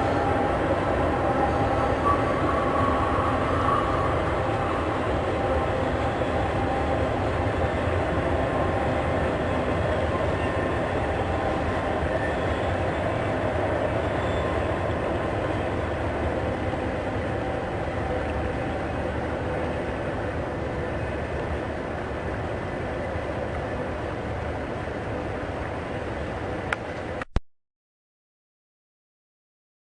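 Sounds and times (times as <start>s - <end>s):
train wheels rolling on track: 0.0s - 27.2s.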